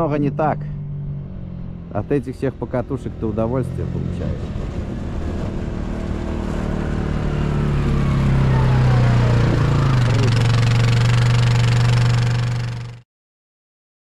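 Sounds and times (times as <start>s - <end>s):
buggy engine running: 0.0s - 13.0s.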